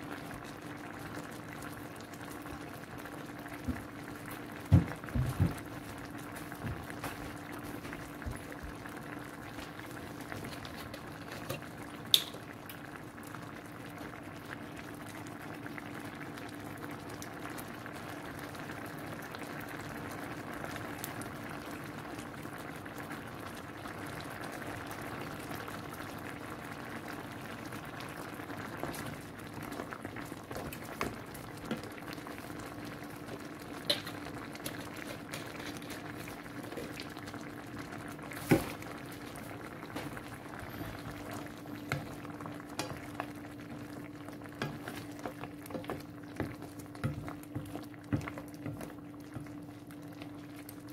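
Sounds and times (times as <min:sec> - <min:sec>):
sauce bubbling in a pan: 0:00.0 - 0:50.9.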